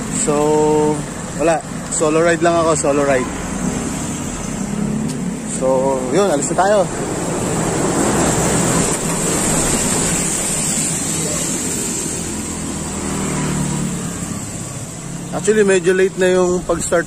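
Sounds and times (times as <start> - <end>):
rushing wind: 0.0 - 15.3
vehicle engine low hum: 0.0 - 16.9
road noise: 0.0 - 17.0.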